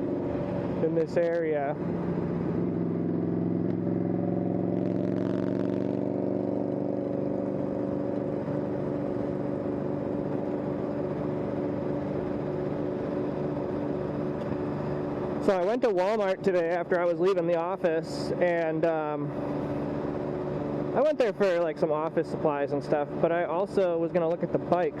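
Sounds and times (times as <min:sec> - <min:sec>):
motorbike engine cruising: 0:00.0 - 0:25.0
road and wind noise: 0:00.0 - 0:25.0.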